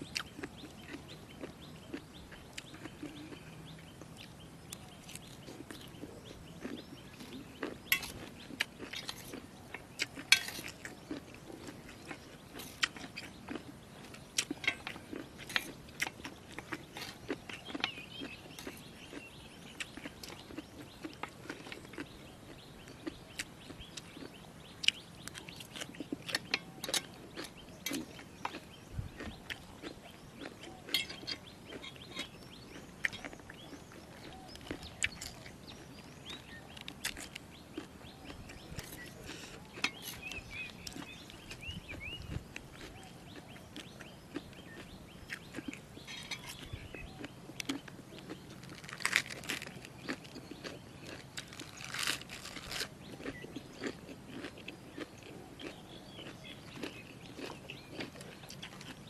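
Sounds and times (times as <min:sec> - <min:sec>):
birds chirping: 0:00.0 - 0:59.0
crunchy chewing: 0:00.0 - 0:59.0.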